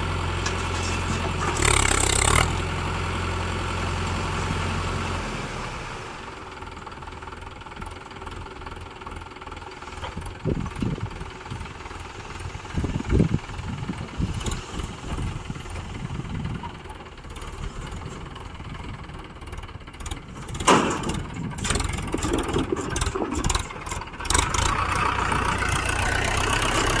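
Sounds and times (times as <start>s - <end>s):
heavy machinery diesel engine running: 0.0s - 27.0s.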